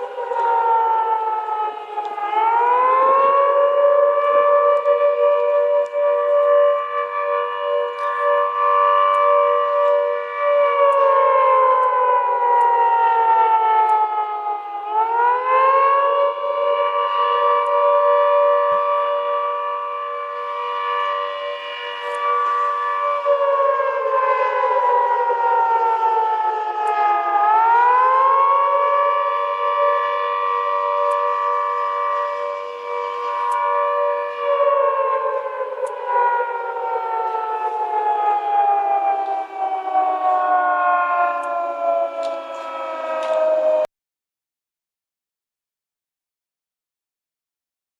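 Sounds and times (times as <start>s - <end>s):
air raid siren: 0.0s - 43.9s.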